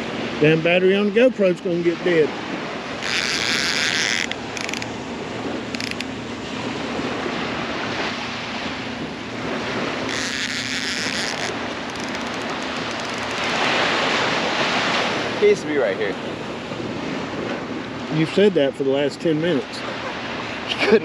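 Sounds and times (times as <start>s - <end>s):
surf washing onto beach: 0.0s - 21.0s
wind rushing over microphone: 0.0s - 21.0s.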